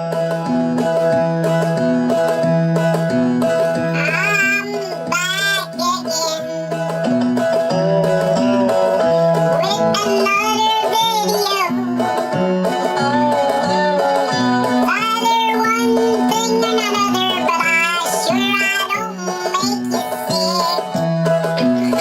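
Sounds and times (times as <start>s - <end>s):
plucked strings: 0.1s - 22.0s
person singing: 3.6s - 22.0s.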